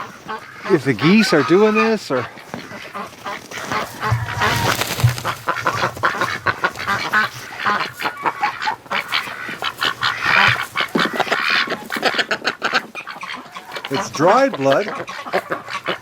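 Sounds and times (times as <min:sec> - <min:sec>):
ducks quacking: 0:00.0 - 0:16.0
geese honking: 0:00.0 - 0:16.0.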